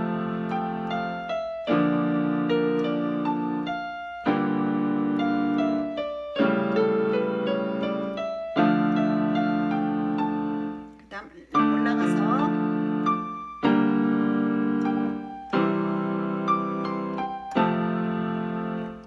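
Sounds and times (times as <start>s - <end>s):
keyboard piano melody and chords: 0.0s - 19.0s.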